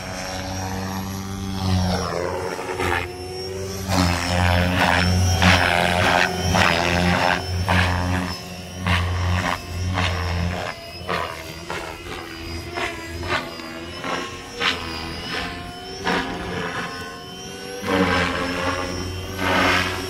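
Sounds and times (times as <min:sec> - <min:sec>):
helicopter motor drone: 0:00.0 - 0:20.0
rotor whooshing: 0:00.0 - 0:20.0.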